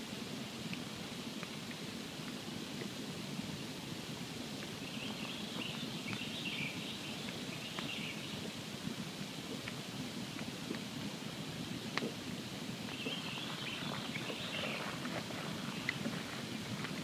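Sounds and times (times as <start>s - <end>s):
campfire crackling: 0.7s - 17.0s.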